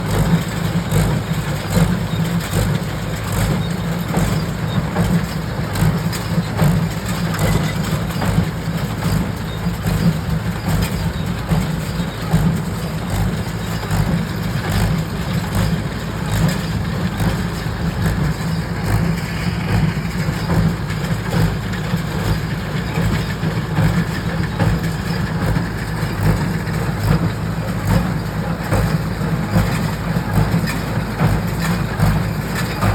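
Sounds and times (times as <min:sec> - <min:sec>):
tractor and baler engine drone: 0:00.0 - 0:32.9.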